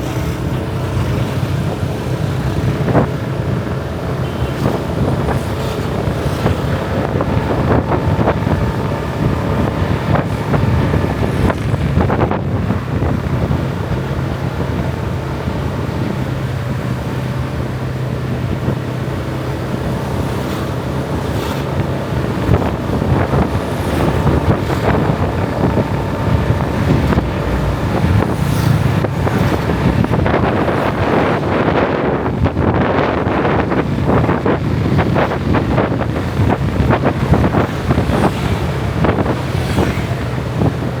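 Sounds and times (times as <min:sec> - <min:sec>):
motorbike engine hum: 0:00.0 - 0:41.0
wind buffeting microphone: 0:00.0 - 0:41.0.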